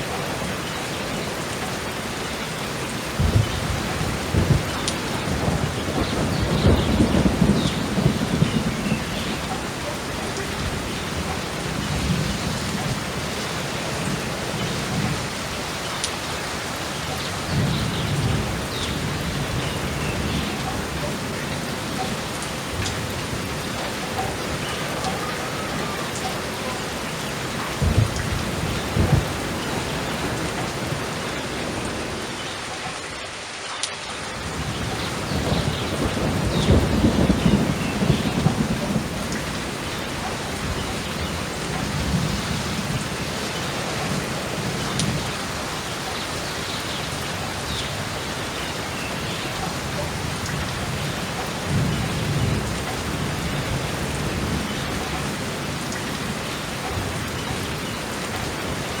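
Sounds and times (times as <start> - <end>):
thunder rolling: 0.0 - 33.0, 34.4 - 59.0
steady rain: 0.0 - 59.0.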